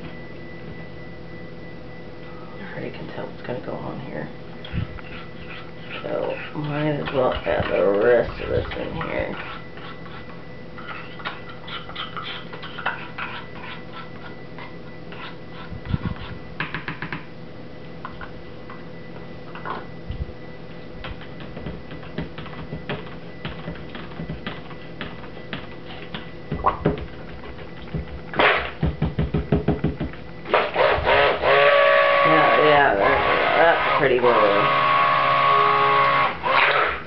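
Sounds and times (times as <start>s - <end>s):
stick blender hum: 4.6s - 17.3s, 17.9s - 37.0s.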